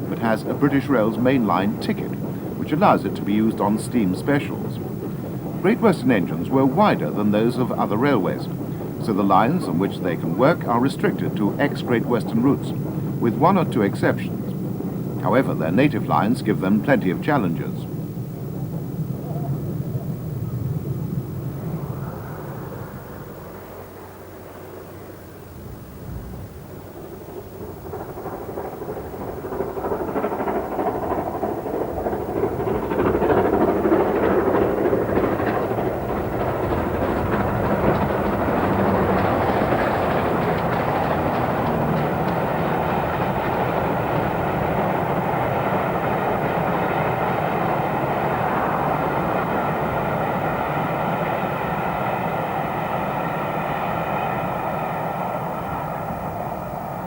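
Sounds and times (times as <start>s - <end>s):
steam locomotive passing: 0.0s - 57.0s
train wheels on rails: 0.0s - 57.0s.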